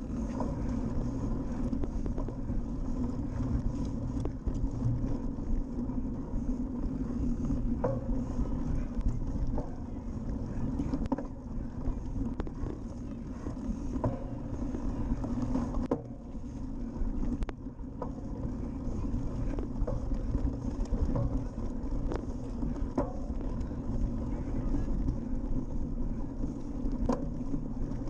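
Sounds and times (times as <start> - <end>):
bike clicks and rattles: 0.0 - 28.0.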